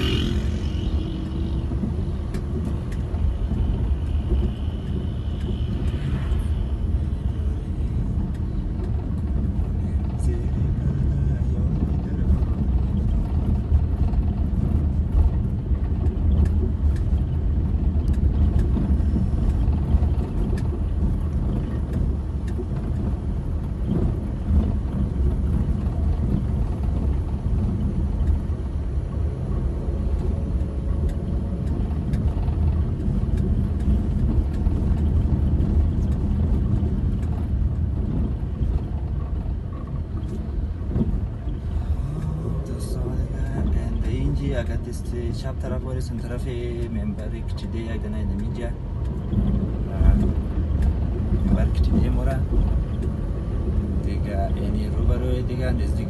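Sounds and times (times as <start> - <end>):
car driving on dirt road: 0.0 - 56.0.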